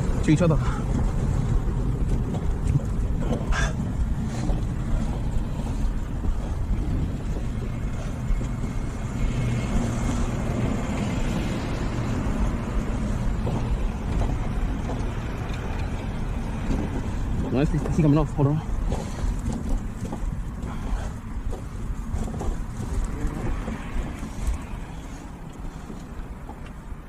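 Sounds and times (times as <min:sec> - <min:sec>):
motor vehicle rumble: 0:00.0 - 0:27.0.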